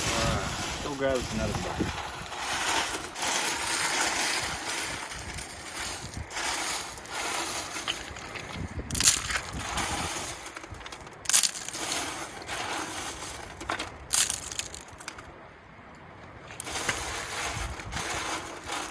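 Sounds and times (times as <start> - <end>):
gravel rattling across sifter screen: 0.0 - 15.3, 16.6 - 18.9.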